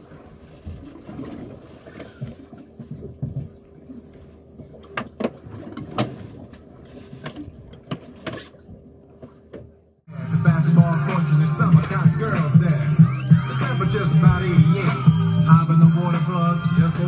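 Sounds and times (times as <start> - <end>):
water and wind rumble: 0.0 - 17.0.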